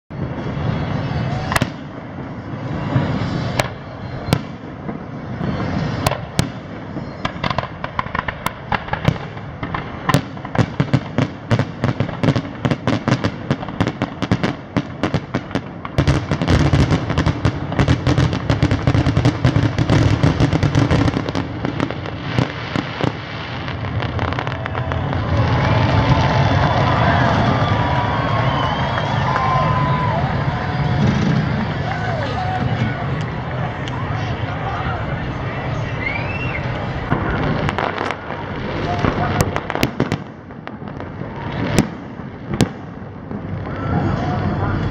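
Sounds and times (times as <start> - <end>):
fireworks bangs: 0.1 - 44.9
fireworks crackling: 0.1 - 44.9.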